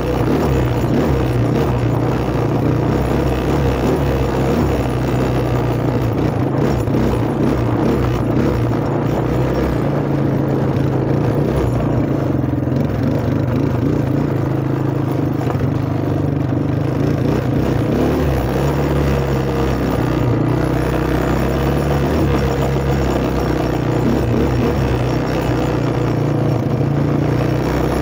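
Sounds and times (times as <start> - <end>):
quad bike engine running: 0.0 - 28.0.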